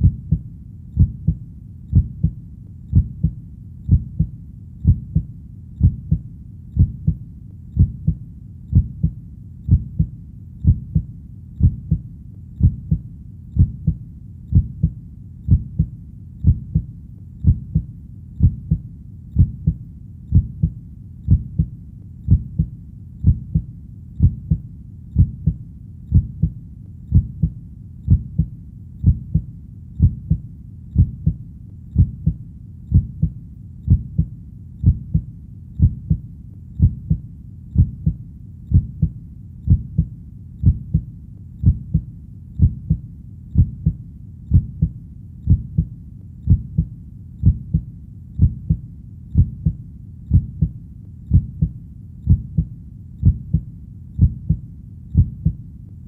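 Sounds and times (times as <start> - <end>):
faint low rumble: 0.0 - 56.0
heartbeat: 0.0 - 56.0.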